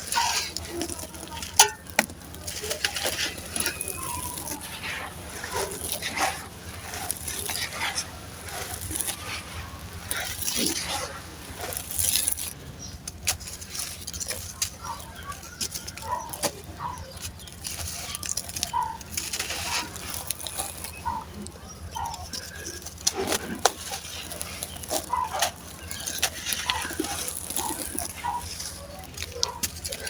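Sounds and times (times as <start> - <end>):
sand-cement chunks crumbling: 0.0 - 30.0.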